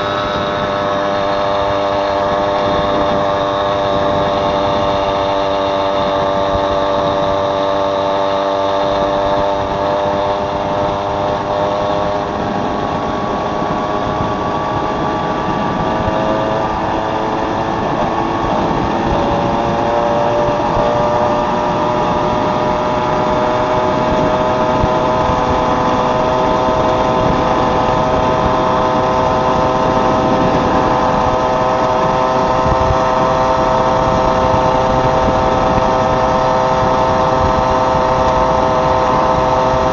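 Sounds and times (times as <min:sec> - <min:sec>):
moped engine running: 0:00.0 - 0:39.9.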